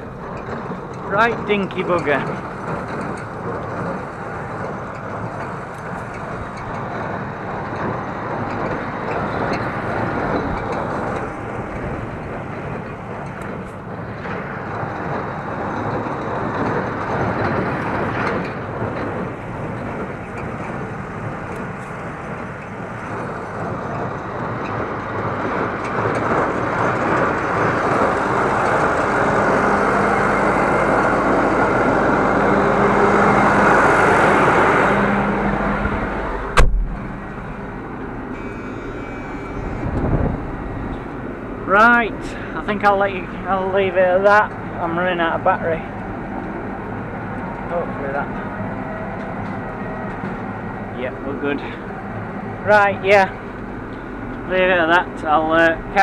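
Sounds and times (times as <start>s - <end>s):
hay baler working: 0.0s - 56.0s
tractor engine running: 0.0s - 56.0s.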